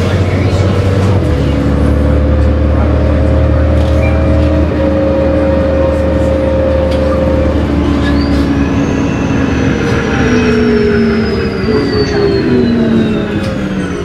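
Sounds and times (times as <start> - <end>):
bus engine and transmission whine: 0.0 - 14.0
road noise: 0.0 - 14.0.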